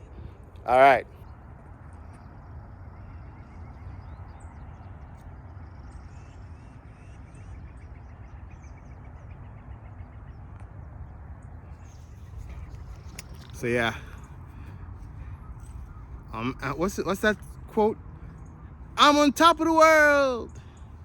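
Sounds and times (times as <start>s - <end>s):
wind rumble on microphone: 0.0s - 19.0s
faint birds chirping: 0.0s - 21.0s.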